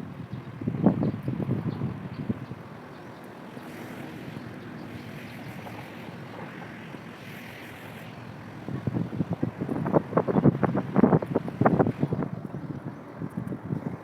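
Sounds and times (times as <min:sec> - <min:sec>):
outdoor background noise: 0:00.0 - 0:14.0
wind buffeting microphone: 0:00.0 - 0:14.0.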